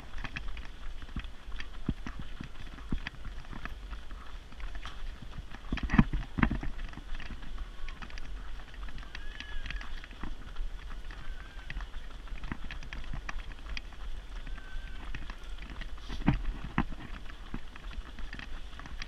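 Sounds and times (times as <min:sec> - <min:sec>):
running footsteps on pavement: 0:00.0 - 0:19.0.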